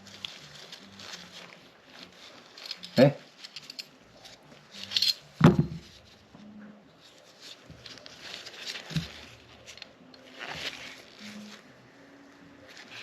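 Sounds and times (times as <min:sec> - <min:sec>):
soft rubbing and scraping: 0:00.0 - 0:13.0.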